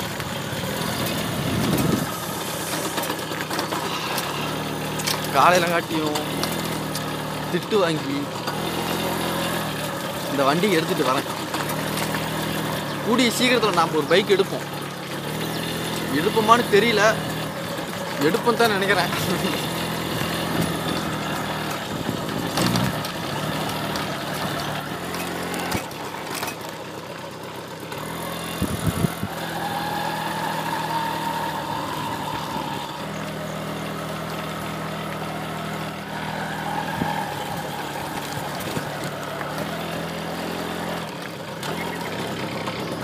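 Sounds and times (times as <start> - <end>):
moped engine running: 0.0 - 43.0
road and wind noise: 0.0 - 43.0.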